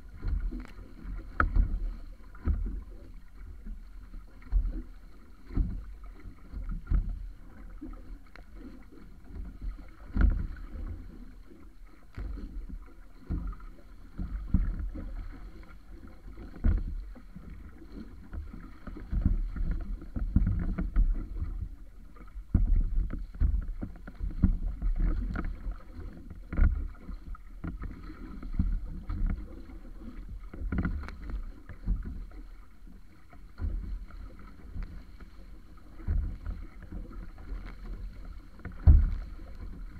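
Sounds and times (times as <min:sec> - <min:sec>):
water rushing along wooden hull: 0:00.0 - 0:39.9
waves thumping hull: 0:00.0 - 0:39.9.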